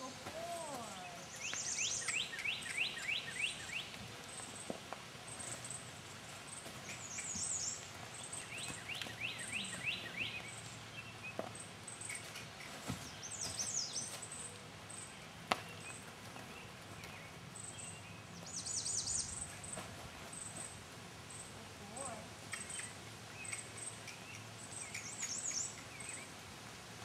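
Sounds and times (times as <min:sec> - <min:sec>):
songbirds trilling: 0:00.0 - 0:26.9.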